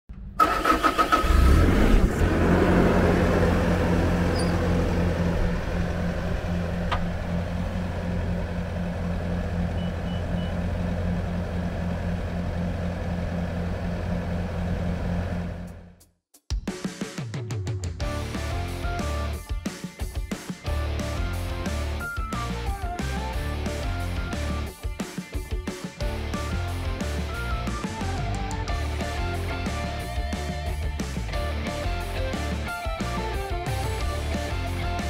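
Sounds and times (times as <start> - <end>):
diesel engine starting and running: 0.1 - 16.0, 18.0 - 19.4, 20.7 - 24.7, 26.0 - 35.0.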